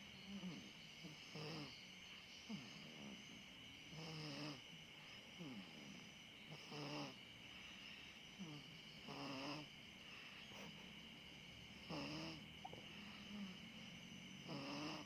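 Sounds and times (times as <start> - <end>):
faint snoring: 0.0 - 15.0.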